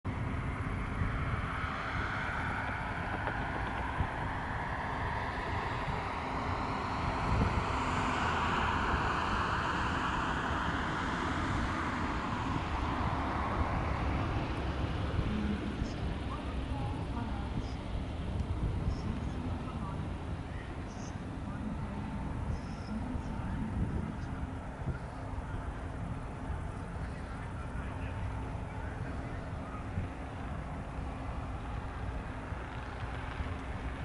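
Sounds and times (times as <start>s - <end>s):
wind rumbling on microphone: 0.0s - 34.0s
tow vehicle engine running: 0.1s - 34.0s.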